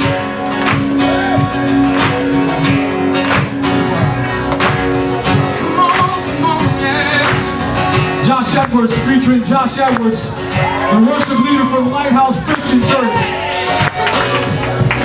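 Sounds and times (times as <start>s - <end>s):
live band playing gospel song: 0.0s - 15.0s
strummed acoustic guitar: 0.0s - 15.0s.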